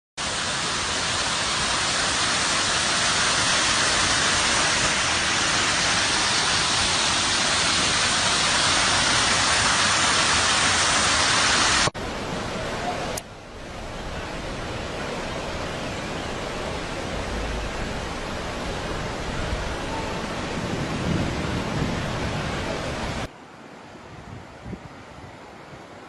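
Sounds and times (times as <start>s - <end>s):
water rushing: 0.2s - 26.0s.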